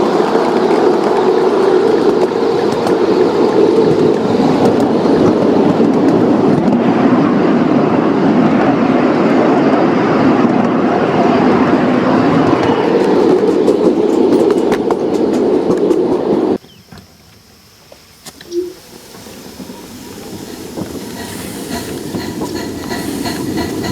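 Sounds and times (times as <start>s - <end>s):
model train rumbling on track: 0.0s - 16.6s, 18.7s - 23.9s.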